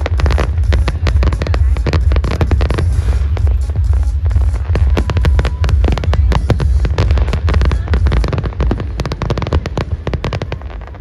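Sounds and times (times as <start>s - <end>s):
fireworks bangs and crackles: 0.0s - 11.0s
heavy low rumble: 0.0s - 11.0s.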